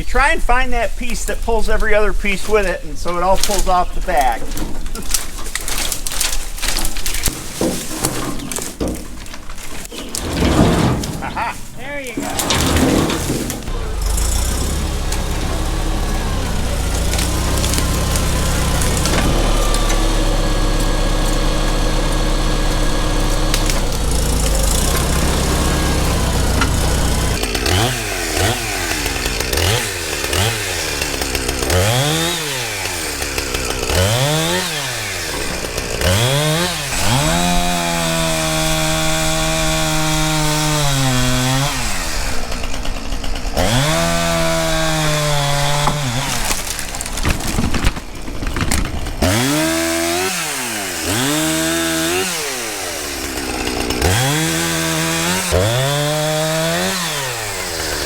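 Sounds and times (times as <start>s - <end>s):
chainsaw revving: 9.8s - 58.0s.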